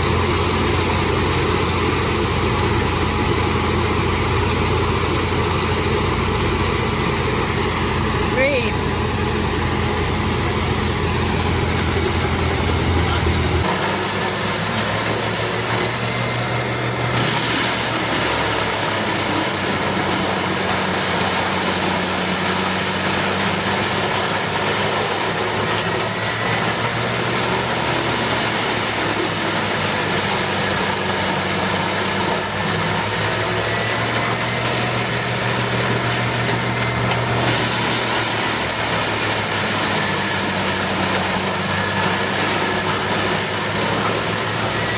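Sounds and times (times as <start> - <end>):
heavy machine engine drone: 0.0 - 44.9.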